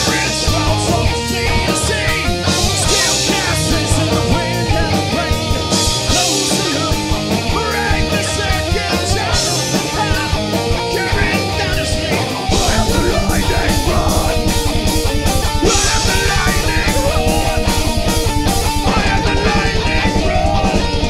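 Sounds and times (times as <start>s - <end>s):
drum kit with crashing cymbals: 0.0s - 21.0s
heavy rock band playing: 0.0s - 21.0s.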